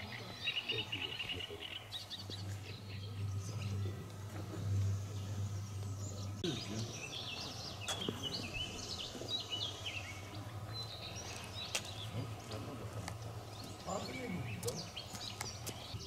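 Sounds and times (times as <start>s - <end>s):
birds chirping and trilling: 0.0s - 16.0s
steady low hum: 0.0s - 16.0s.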